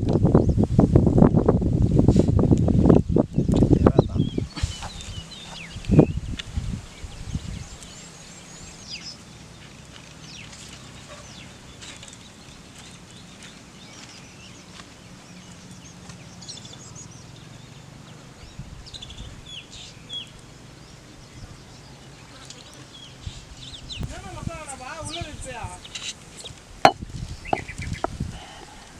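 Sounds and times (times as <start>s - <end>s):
birds chirping: 3.0s - 28.7s.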